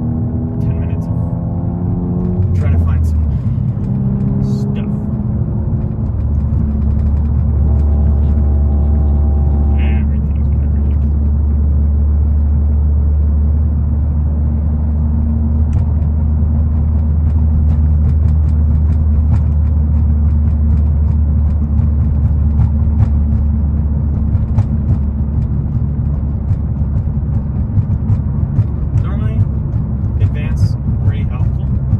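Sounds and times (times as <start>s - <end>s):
car exhaust drone: 0.0s - 31.9s.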